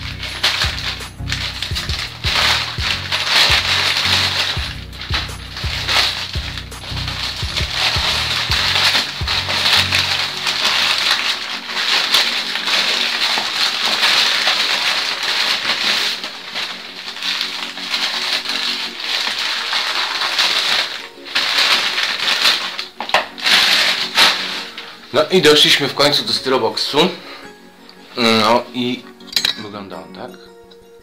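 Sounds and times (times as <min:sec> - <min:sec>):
paper and plastic crinkling: 0:00.0 - 0:30.3.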